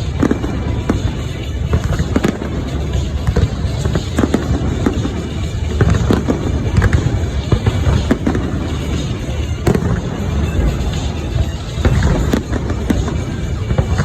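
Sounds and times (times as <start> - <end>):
fireworks bangs and crackles: 0.0 - 14.0
low rumble of explosions: 0.0 - 14.0.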